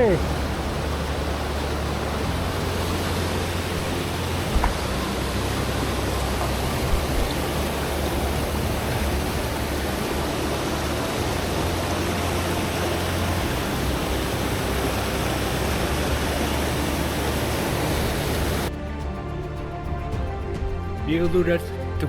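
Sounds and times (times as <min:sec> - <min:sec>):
creek water rushing over rocks: 0:00.0 - 0:18.7.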